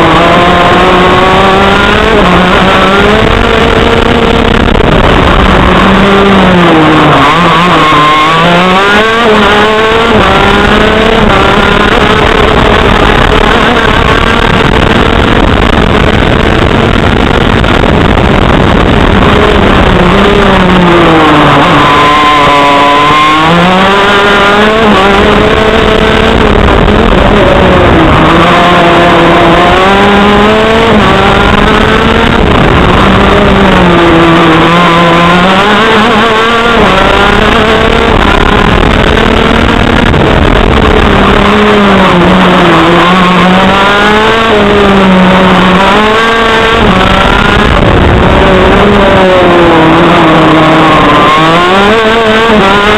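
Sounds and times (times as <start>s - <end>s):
kart engine running hard: 0.0s - 52.9s.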